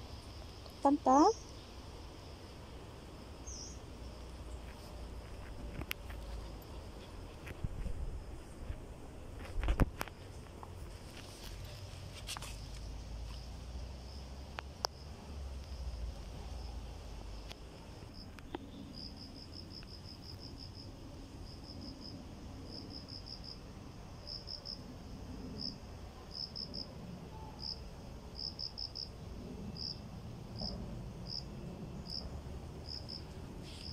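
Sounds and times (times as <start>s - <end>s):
insect chirping: 0.0s - 33.9s.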